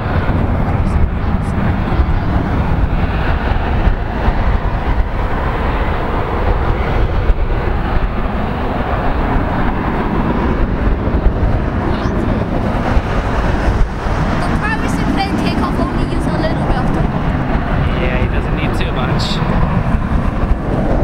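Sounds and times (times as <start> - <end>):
airliner jet engines rumbling: 0.0 - 21.0
wind buffeting microphone: 0.0 - 21.0.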